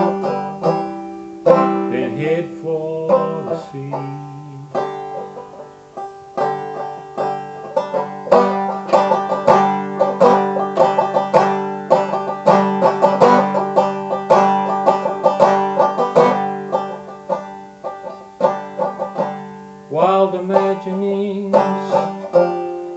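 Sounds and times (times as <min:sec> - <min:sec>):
banjo picking: 0:00.0 - 0:22.9.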